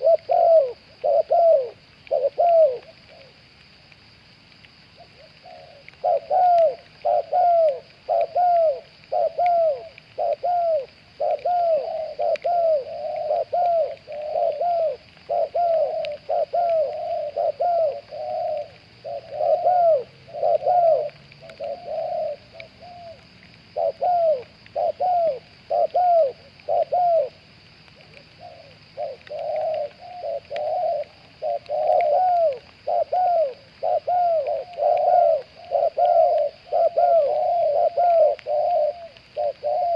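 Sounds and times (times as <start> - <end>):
doves cooing: 0.0 - 3.5, 5.0 - 39.9.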